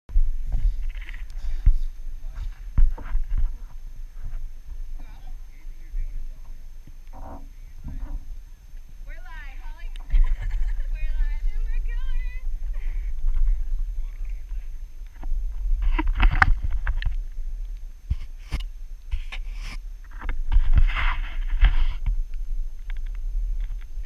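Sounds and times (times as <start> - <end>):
steady low rumble: 0.1 - 24.0.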